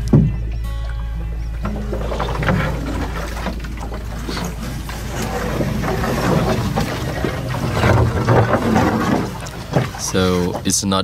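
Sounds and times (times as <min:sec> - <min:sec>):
pole knocking on hull: 0:00.0 - 0:00.4, 0:01.6 - 0:10.6
water sloshing: 0:00.0 - 0:11.0
bushes rustling: 0:01.4 - 0:11.0.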